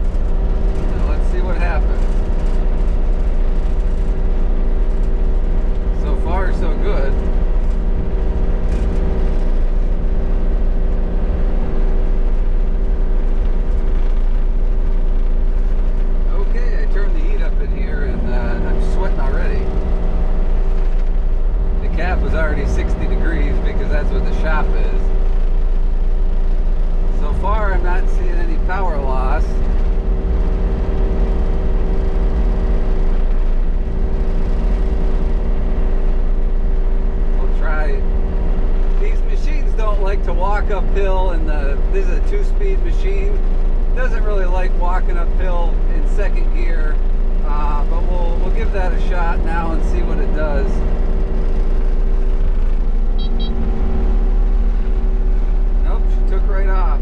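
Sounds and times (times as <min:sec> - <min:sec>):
diesel engine at full throttle: 0:00.0 - 0:57.0.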